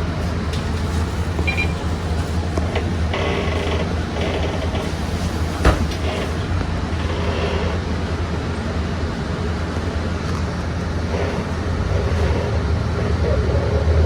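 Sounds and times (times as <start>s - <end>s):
bus engine and road drone: 0.0s - 14.0s.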